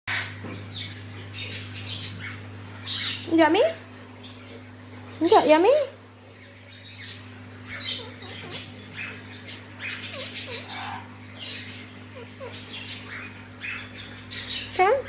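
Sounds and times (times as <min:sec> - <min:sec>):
parrots chirping and chattering: 0:00.1 - 0:15.0
steady low hum: 0:00.1 - 0:15.0.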